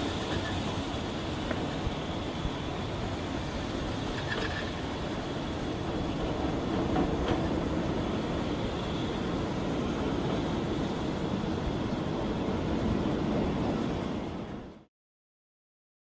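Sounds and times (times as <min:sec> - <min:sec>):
freight train wheels rumbling: 0:00.0 - 0:14.8.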